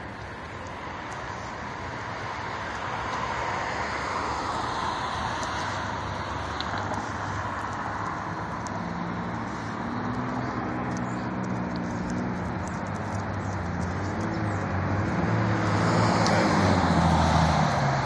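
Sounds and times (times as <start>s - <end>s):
low engine hum: 0.0s - 18.0s
passing vehicles: 0.0s - 18.0s.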